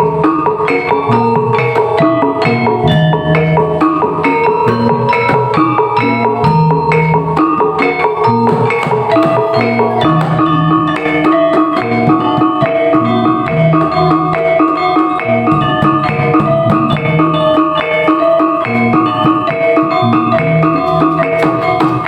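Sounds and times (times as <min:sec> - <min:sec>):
drum beat: 0:00.0 - 0:22.0
tuned metal percussion melody: 0:00.0 - 0:22.0.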